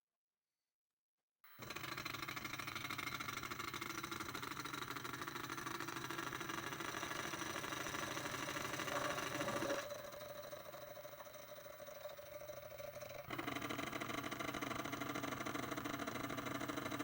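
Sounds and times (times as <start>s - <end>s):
machine tool motor rattling: 1.6s - 17.0s.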